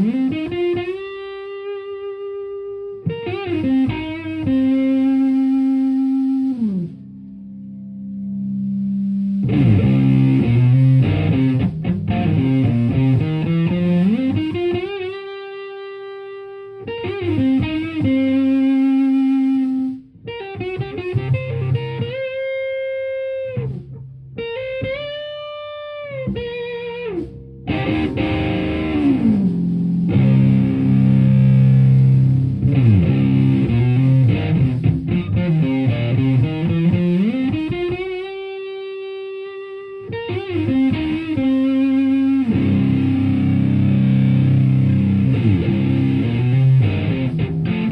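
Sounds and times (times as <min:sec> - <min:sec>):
fuzz electric guitar riffs: 0:00.0 - 0:47.9.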